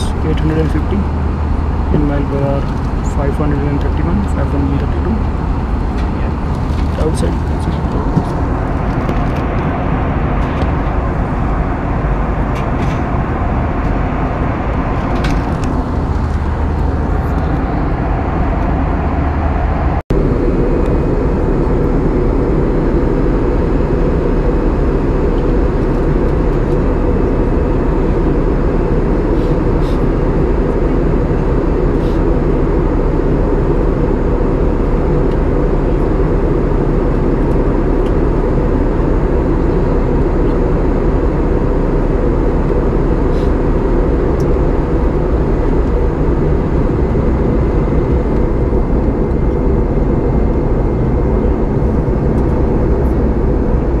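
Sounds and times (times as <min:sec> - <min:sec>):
airplane cabin airflow and engines: 0:00.0 - 0:54.0
faint steady whine: 0:00.0 - 0:54.0.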